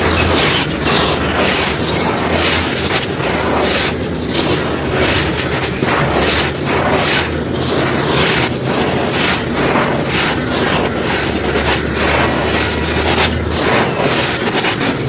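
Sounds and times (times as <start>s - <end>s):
dry sand crumbling: 0.0s - 15.0s.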